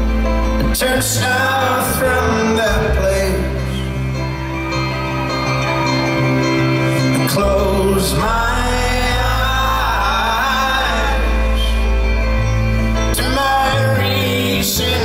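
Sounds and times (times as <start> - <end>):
acoustic guitar: 0.0 - 15.0
double bass long low notes: 0.0 - 15.0
person singing: 0.4 - 15.0.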